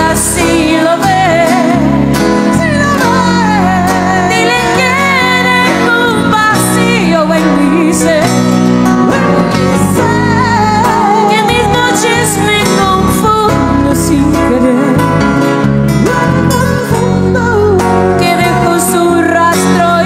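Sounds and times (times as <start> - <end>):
acoustic guitars: 0.0 - 20.0
wavering lead melody: 0.0 - 20.0.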